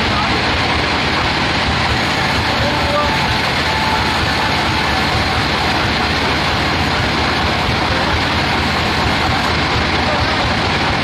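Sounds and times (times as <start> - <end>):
sawmill machinery drone: 0.0 - 11.0.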